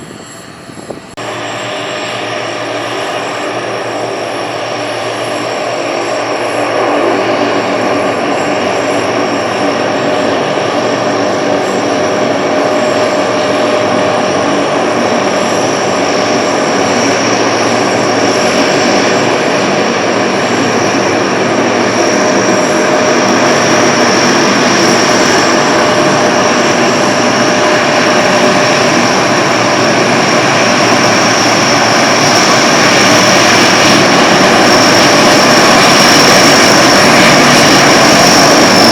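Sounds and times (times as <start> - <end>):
turboprop engines whining: 0.0 - 38.9.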